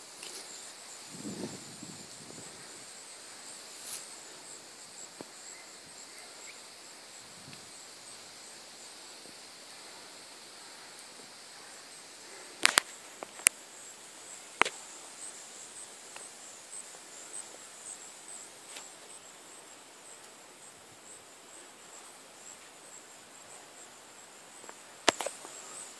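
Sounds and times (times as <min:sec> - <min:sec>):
high-pitched insect chirping: 0:00.1 - 0:25.9.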